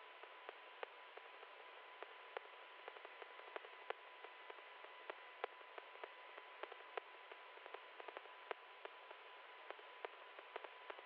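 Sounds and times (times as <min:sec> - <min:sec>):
faint steady tone: 0:00.0 - 0:11.0
static hiss: 0:00.0 - 0:11.0
sharp crackling clicks: 0:00.5 - 0:11.0.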